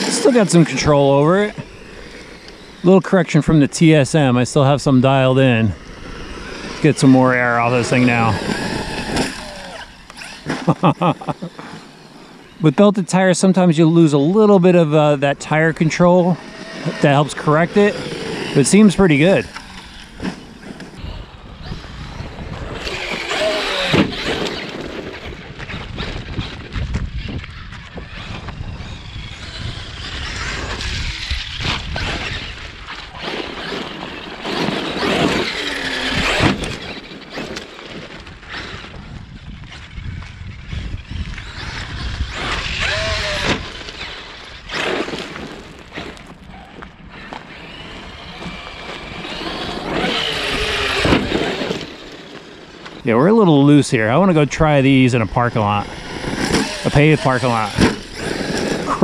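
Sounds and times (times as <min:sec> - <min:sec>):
electric motor whining: 0:00.0 - 0:12.6, 0:14.2 - 0:59.0
tires on loose gravel: 0:00.0 - 0:59.0.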